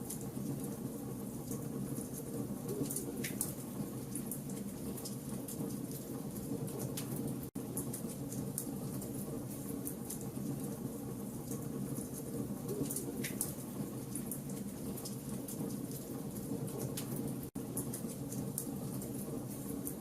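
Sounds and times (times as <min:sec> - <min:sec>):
fire crackling in fireplace: 0:00.0 - 0:20.0.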